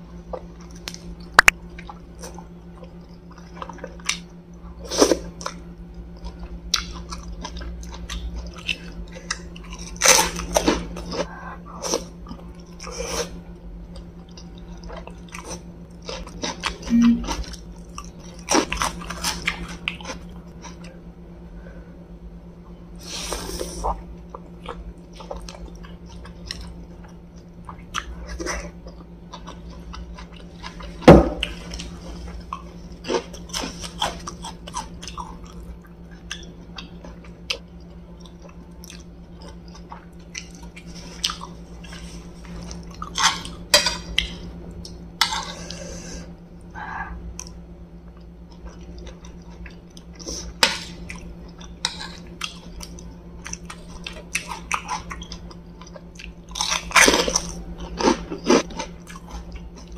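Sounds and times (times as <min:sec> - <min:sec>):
low hum: 0:00.0 - 0:59.9
chewing crispy fried food: 0:00.1 - 0:21.2, 0:23.5 - 0:59.9.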